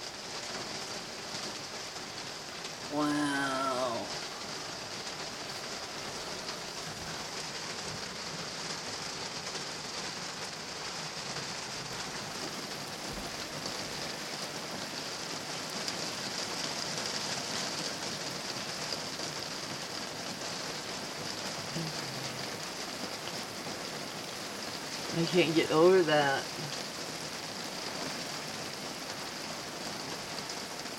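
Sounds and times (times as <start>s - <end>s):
water hissing steadily: 0.0s - 30.9s.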